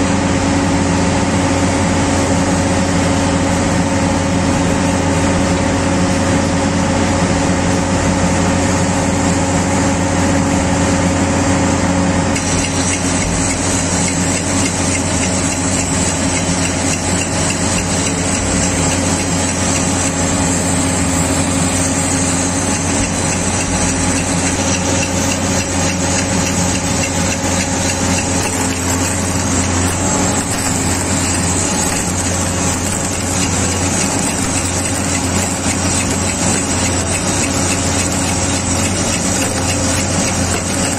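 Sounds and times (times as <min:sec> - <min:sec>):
welding machine engine drone: 0:00.0 - 0:40.9.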